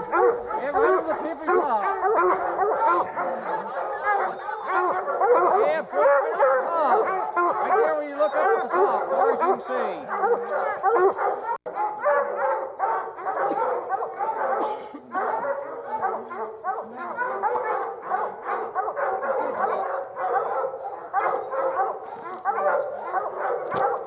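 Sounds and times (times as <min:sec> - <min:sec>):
hunting dogs barking and baying: 0:00.0 - 0:24.0.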